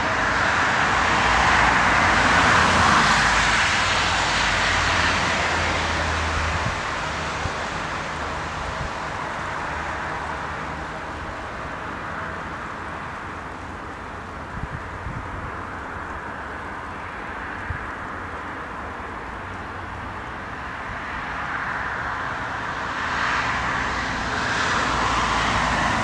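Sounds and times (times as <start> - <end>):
distant jet engine rush: 0.0 - 26.0.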